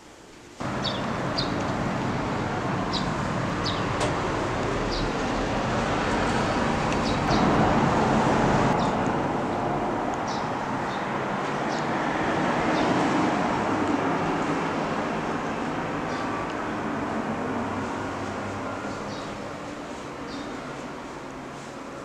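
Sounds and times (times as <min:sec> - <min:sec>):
city traffic hum: 0:00.0 - 0:22.0.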